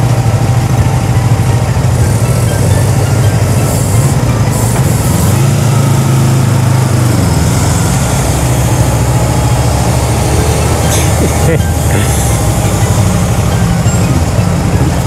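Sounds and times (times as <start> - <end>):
motorcycle engine running: 0.0 - 15.0
rush of riding noise: 0.0 - 15.0.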